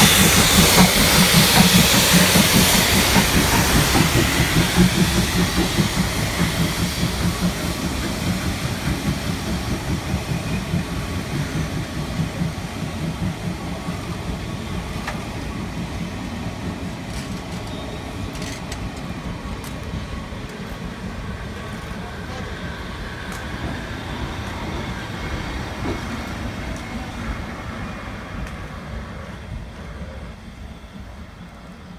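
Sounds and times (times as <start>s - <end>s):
steam train passing: 0.0s - 31.9s.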